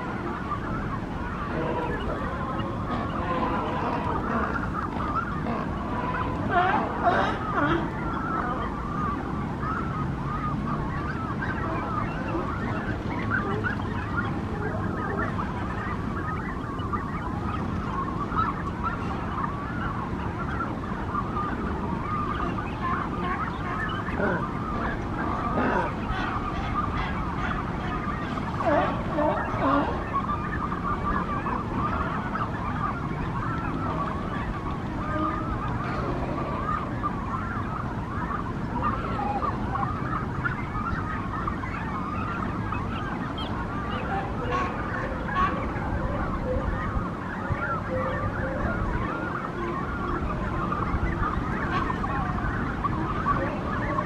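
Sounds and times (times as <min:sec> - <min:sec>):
cormorants squawking: 0:00.0 - 0:54.0
low background noise: 0:00.0 - 0:54.0
steady low noise: 0:00.0 - 0:54.0.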